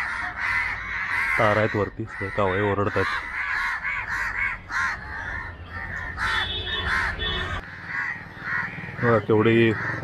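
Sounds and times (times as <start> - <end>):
crows cawing: 0.0 - 10.0.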